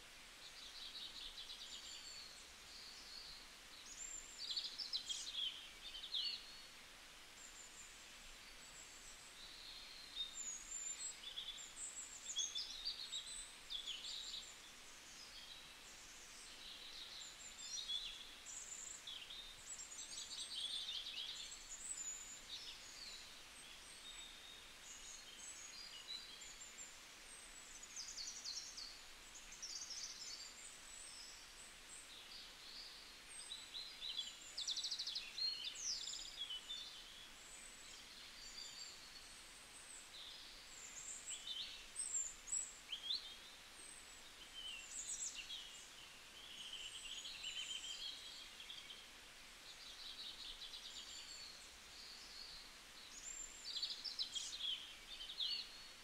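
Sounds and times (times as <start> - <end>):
faint steady hiss: 0.0 - 56.0
songbirds chirping and trilling: 0.0 - 56.0.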